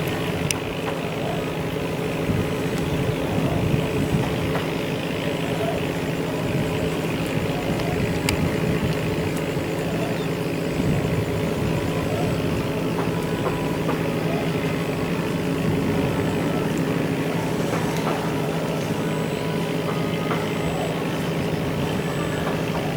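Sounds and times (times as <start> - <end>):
heavy engine running: 0.0 - 22.9.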